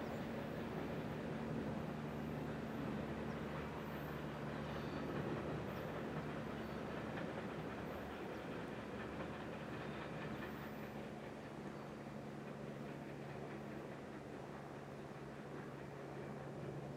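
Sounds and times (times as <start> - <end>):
train wheels on rails: 0.0 - 16.9.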